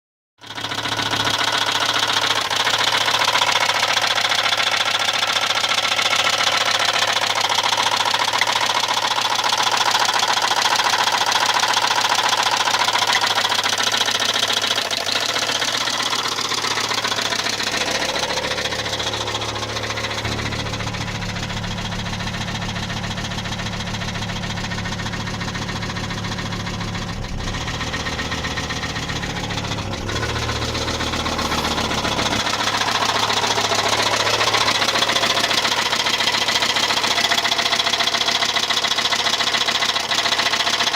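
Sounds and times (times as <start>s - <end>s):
car engine running: 0.4s - 40.9s
fast engine knocking: 0.4s - 40.9s.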